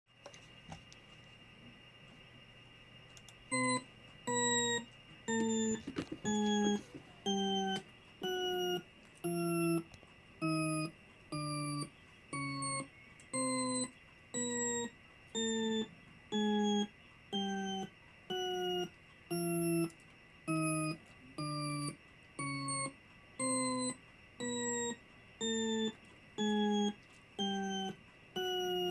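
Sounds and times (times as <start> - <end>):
faint high whine: 0.1 - 28.9
repeating electronic tone: 3.5 - 28.9.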